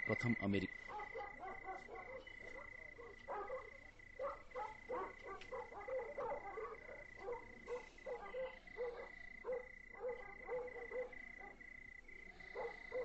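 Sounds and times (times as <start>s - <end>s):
frogs croaking: 0.0s - 13.0s.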